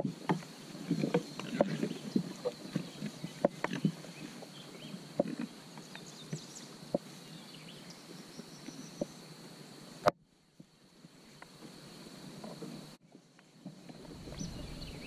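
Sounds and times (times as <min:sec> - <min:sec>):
faint birdsong: 0:00.6 - 0:09.7, 0:10.3 - 0:15.0.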